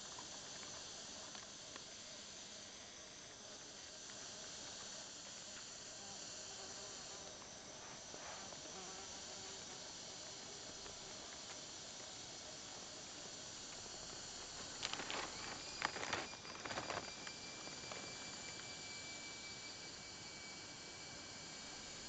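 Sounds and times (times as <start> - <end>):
insects high-pitched drone: 0.0 - 22.0.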